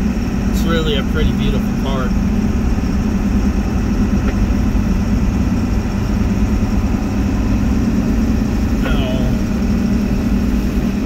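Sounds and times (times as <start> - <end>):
truck cab engine and road rumble: 0.0 - 11.0.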